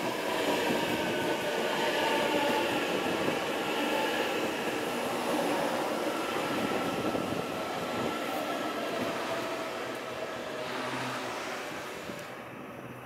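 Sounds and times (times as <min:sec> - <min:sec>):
train rolling on track: 0:00.0 - 0:13.0.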